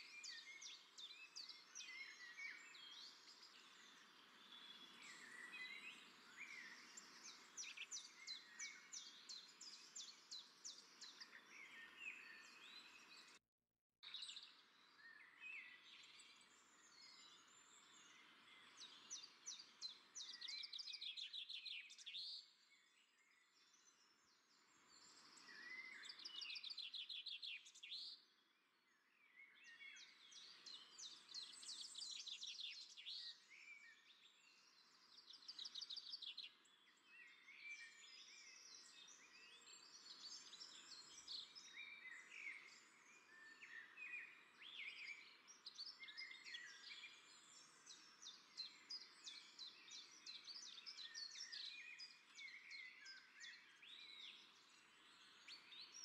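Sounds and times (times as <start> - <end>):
small birds chirping and trilling: 0.0 - 13.4, 14.0 - 56.0.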